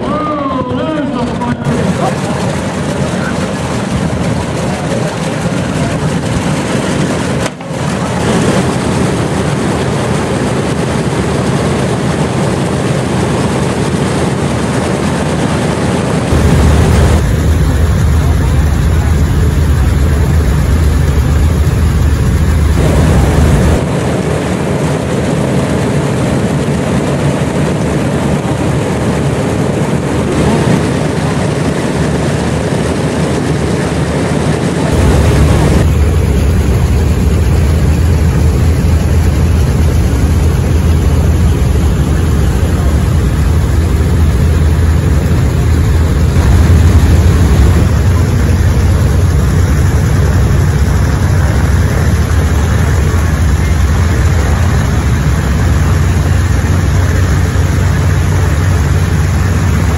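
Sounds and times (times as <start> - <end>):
radial aircraft engines running: 0.0 - 59.9.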